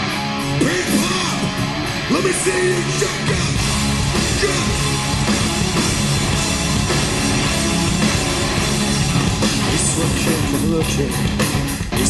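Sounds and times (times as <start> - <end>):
rock band playing loudly: 0.0 - 12.0.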